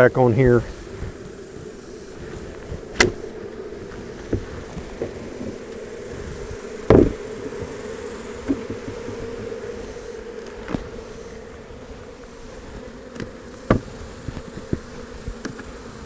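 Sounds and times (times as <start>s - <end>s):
bees buzzing: 0.0s - 16.0s
wooden hive boxes knocking: 0.0s - 16.0s.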